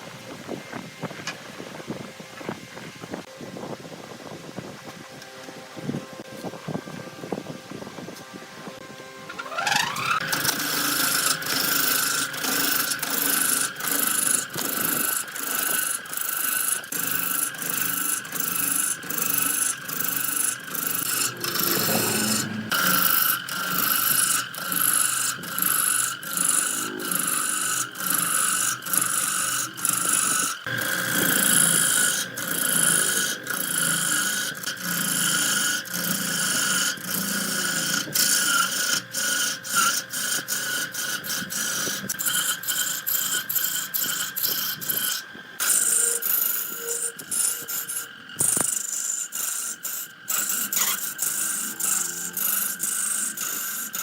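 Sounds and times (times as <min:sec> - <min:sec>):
high machine whine: 0:00.0 - 0:54.0
tool rasping wood: 0:09.3 - 0:54.0.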